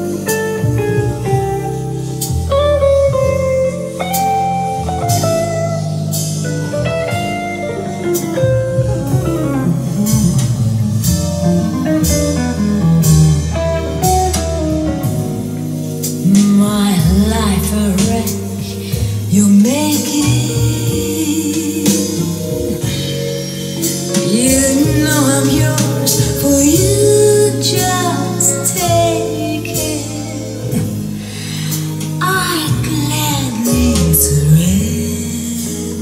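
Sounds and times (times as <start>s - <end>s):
blues guitar music over loudspeakers: 0.0s - 36.0s.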